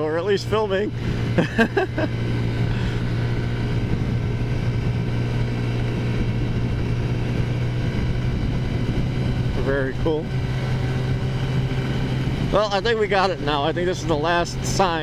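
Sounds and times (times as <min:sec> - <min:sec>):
scooter engine droning: 0:00.0 - 0:15.0.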